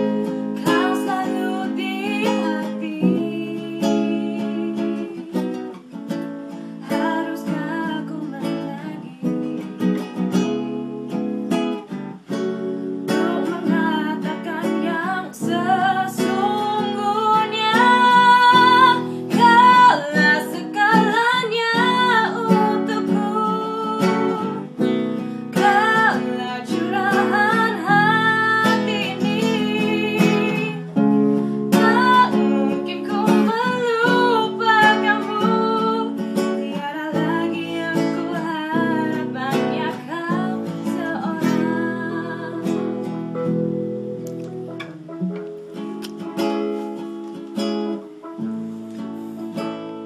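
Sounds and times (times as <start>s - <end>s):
woman singing: 0.0s - 43.6s
strummed acoustic guitar: 0.0s - 50.0s.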